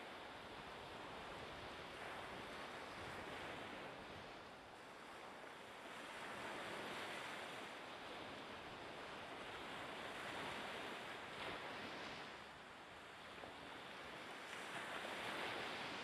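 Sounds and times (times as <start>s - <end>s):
rushing open water: 0.0s - 16.0s
wind on microphone: 0.0s - 16.0s.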